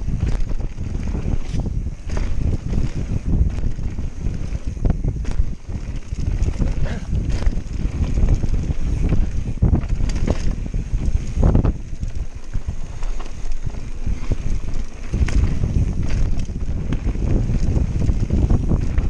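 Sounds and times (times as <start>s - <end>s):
bike knocks and rattles: 0.0s - 19.0s
tyre roar on dirt: 0.0s - 19.0s
wind rumble on microphone: 0.0s - 19.0s.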